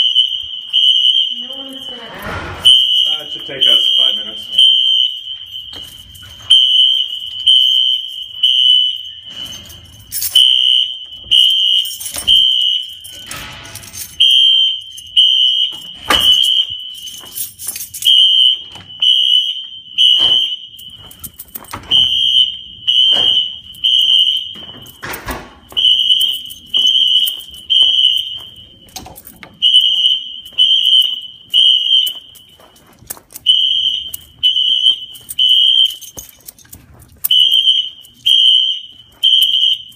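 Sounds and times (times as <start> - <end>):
fire alarm horn beeps: 0.0 - 36.5, 37.2 - 39.9
footsteps: 0.0 - 39.9.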